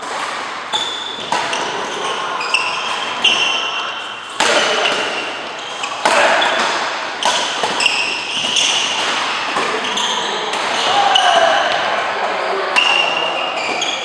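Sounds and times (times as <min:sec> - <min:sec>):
rackets hitting shuttlecock: 0:00.0 - 0:11.9
shoes squeaking on court: 0:00.7 - 0:11.8, 0:12.4 - 0:14.0.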